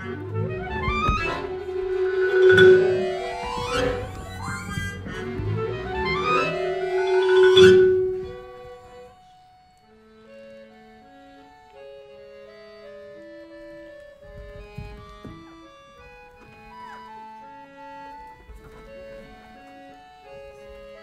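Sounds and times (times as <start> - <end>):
small instrumental ensemble: 0.0 - 21.0.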